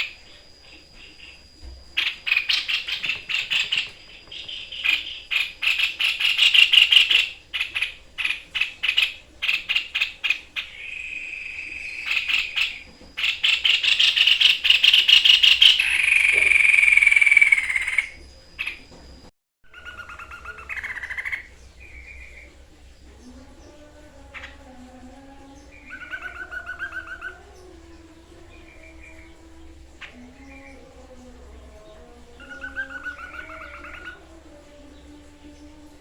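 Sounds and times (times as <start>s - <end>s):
bird singing: 0.0s - 36.0s.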